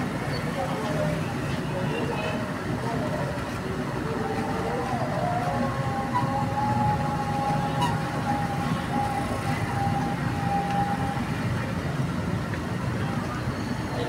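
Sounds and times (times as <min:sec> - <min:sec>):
roadside traffic rumble: 0:00.0 - 0:14.0.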